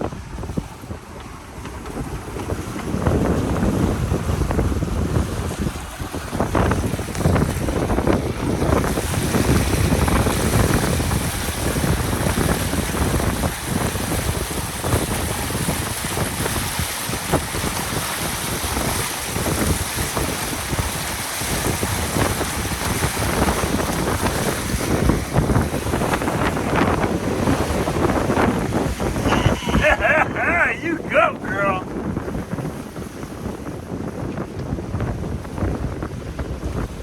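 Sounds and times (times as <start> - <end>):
water washing along hull: 0.0 - 37.0
wind buffeting microphone: 0.0 - 37.0.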